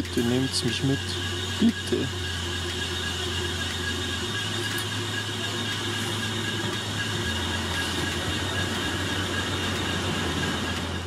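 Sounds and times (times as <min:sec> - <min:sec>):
electric train pulling in: 0:00.0 - 0:11.0.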